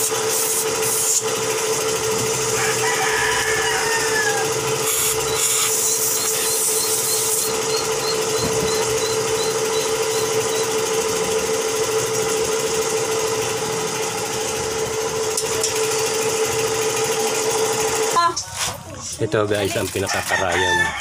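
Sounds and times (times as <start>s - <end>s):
air compressor humming: 0.0s - 21.0s.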